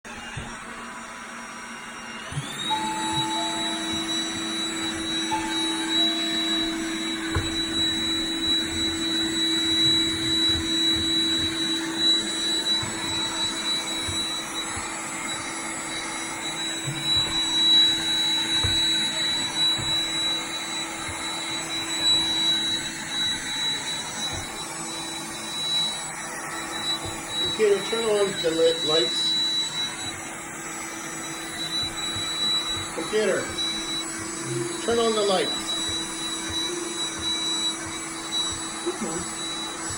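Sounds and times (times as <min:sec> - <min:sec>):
robot vacuum motor whine: 0:00.1 - 0:39.9.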